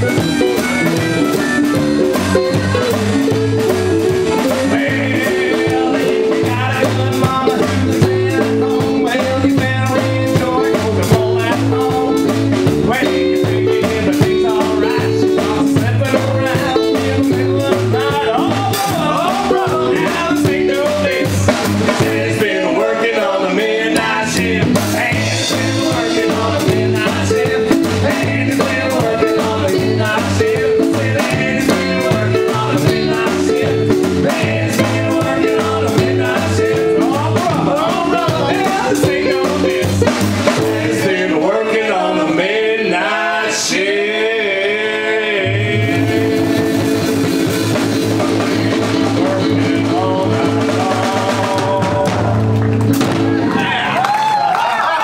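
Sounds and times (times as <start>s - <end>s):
drum kit: 0.0s - 44.2s, 44.8s - 55.0s
man singing: 0.0s - 52.6s
upright double bass: 0.0s - 55.0s.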